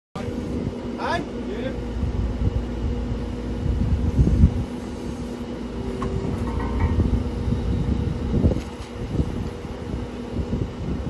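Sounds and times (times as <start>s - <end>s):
vehicle engine idling: 1.4s - 10.3s
wind rumbling on microphone: 1.8s - 11.0s.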